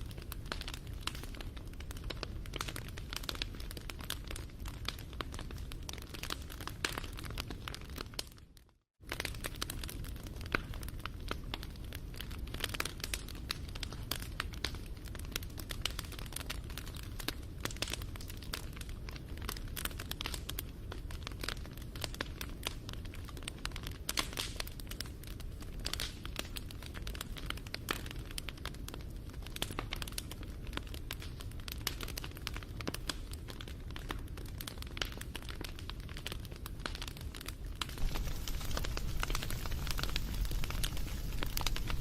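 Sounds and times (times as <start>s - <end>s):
wood fire crackling: 0.0s - 8.4s, 9.0s - 42.0s.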